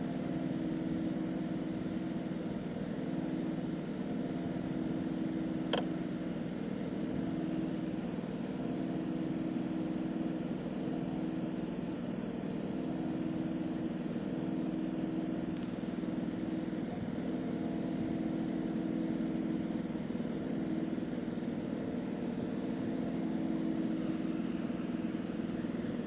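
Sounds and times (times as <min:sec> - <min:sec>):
refrigerator humming: 0:00.0 - 0:26.0.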